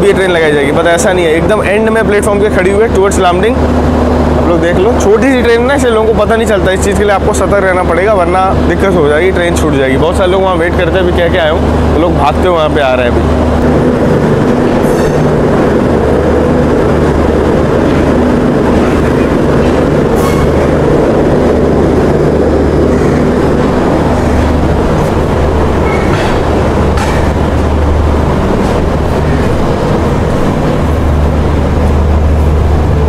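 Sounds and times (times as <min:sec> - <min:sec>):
train running hum: 0:00.0 - 0:33.0.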